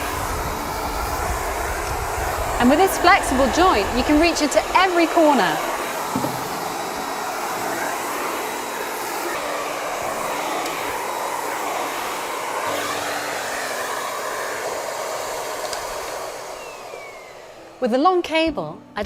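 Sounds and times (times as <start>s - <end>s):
vacuum cleaner suction: 0.0s - 18.5s.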